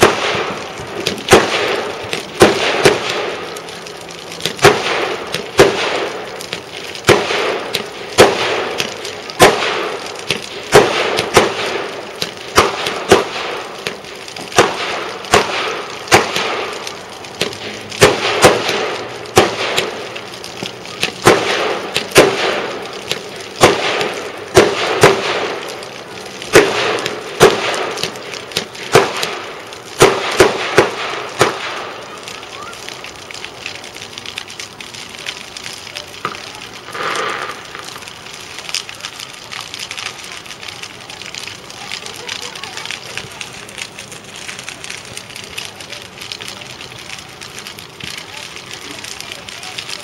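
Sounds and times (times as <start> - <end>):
fireworks bangs: 0.0 - 50.0.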